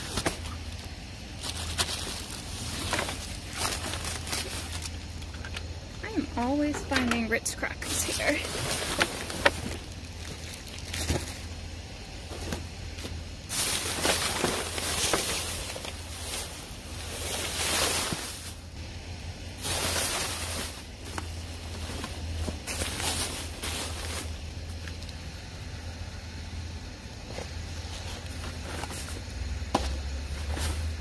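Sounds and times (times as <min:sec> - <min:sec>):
plastic bags rustling: 0:00.0 - 0:25.3, 0:27.2 - 0:29.3, 0:30.2 - 0:31.0
low steady hum: 0:00.0 - 0:31.0.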